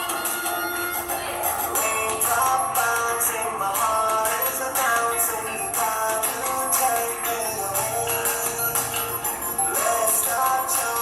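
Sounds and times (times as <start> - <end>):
song over a steady beat: 0.0 - 11.0.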